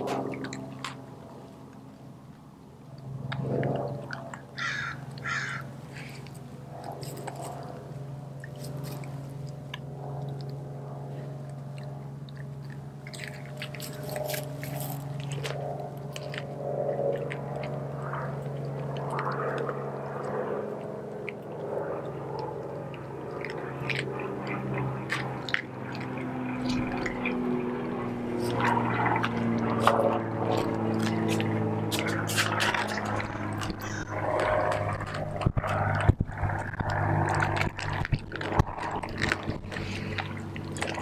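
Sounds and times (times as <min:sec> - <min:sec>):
steady low hum: 0:00.0 - 0:41.0
dog chewing raw chicken: 0:03.4 - 0:41.0.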